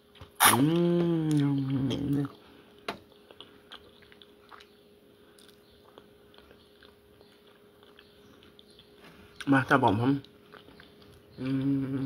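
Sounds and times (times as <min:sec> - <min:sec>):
faint steady hum: 0:00.0 - 0:12.0
person chewing: 0:00.1 - 0:12.0.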